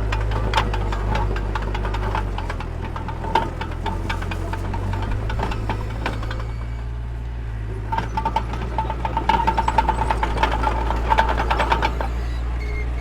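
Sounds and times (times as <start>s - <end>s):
bulldozer diesel engine running: 0.0s - 13.0s
metallic clanking and rattling: 0.0s - 13.0s.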